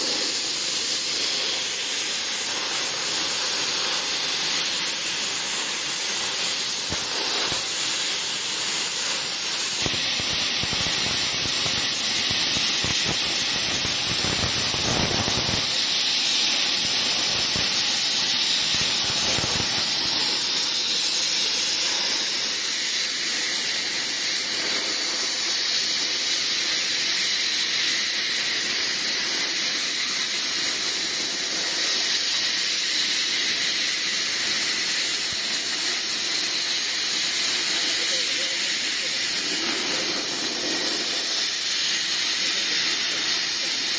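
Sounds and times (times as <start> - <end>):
crackling of cutting metal: 0.0 - 43.9
plasma cutter hissing: 0.0 - 43.9.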